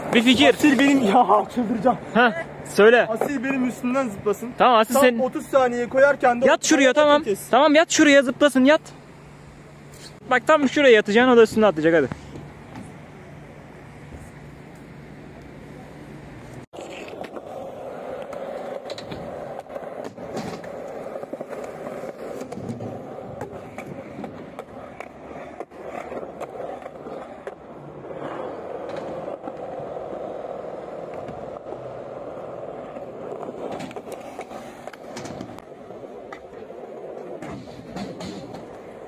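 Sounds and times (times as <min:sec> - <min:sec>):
skateboard wheels rolling on concrete: 0:00.0 - 0:39.0.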